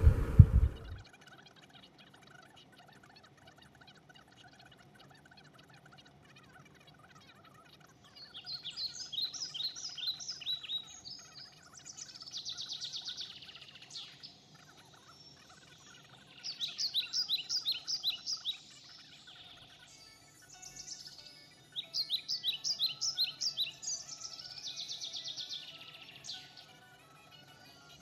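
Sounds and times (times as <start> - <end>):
bird chirps sweeping downward: 0.0 - 28.0
bird trill: 0.5 - 28.0.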